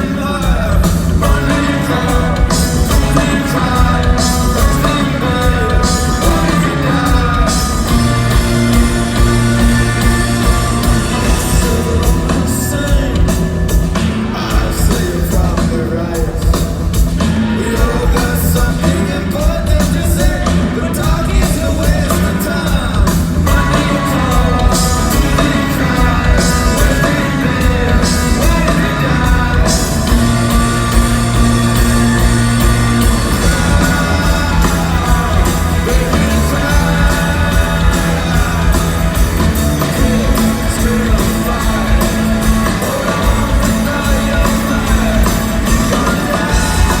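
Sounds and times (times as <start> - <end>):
drums: 0.0 - 47.0
guitars: 0.0 - 47.0
lead singer: 0.0 - 47.0.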